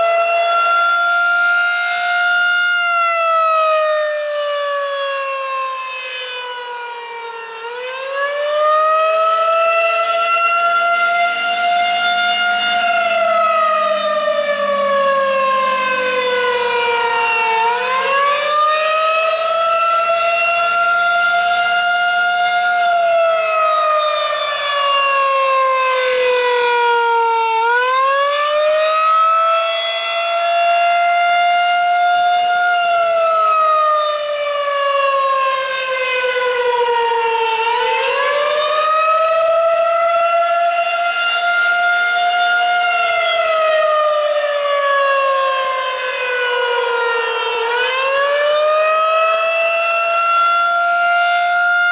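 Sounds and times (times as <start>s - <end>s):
warning siren wailing: 0.0s - 51.9s.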